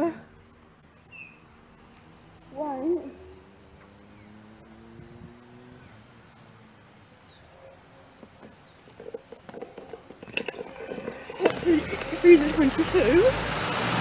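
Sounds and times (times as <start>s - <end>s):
small birds chirping: 0.0s - 13.3s
faint street noise: 0.0s - 14.0s.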